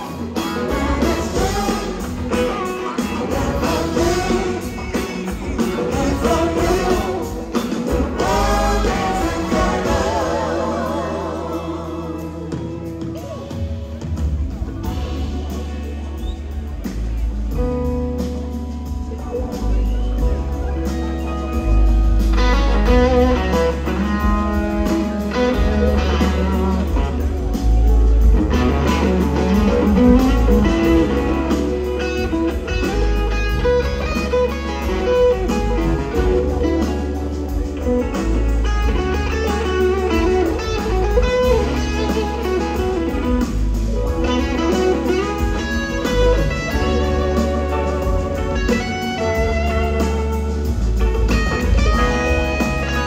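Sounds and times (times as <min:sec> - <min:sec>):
bass: 0:00.0 - 0:53.0
drums: 0:00.0 - 0:53.0
electric guitars: 0:00.0 - 0:53.0
keyboards: 0:00.0 - 0:53.0.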